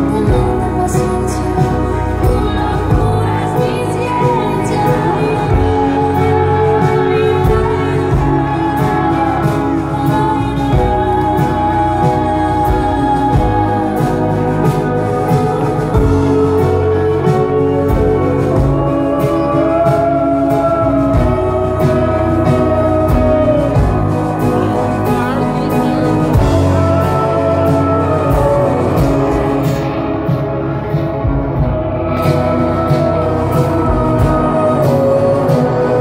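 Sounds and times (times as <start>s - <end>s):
band with keyboards: 0.0s - 36.0s
woman singing a slow ballad: 0.0s - 36.0s.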